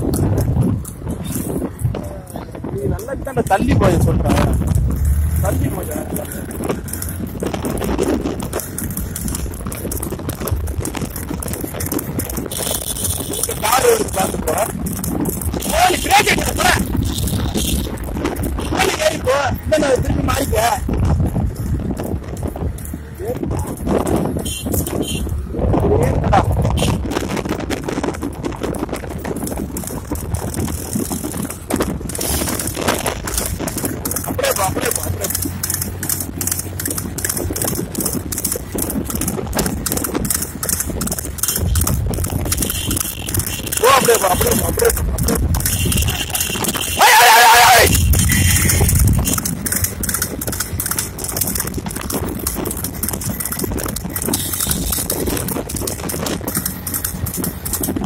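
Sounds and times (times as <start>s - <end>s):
horse hooves clip-clopping on pavement: 0.0s - 58.0s
road rumble: 0.0s - 58.0s
vehicles rattling and clattering: 0.0s - 58.0s.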